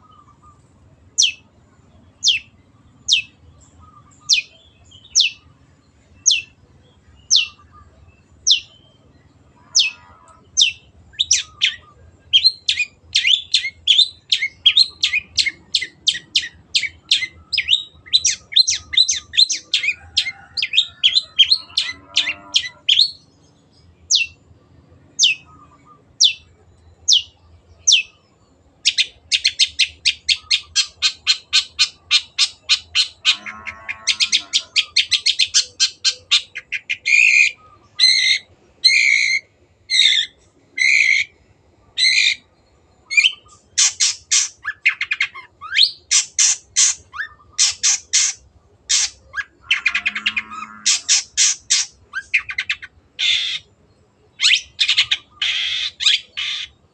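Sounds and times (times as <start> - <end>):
shrike calling: 0.0 - 5.6, 6.2 - 23.3, 28.9 - 53.7, 54.4 - 56.9
low warbled bird phrases: 0.0 - 53.7.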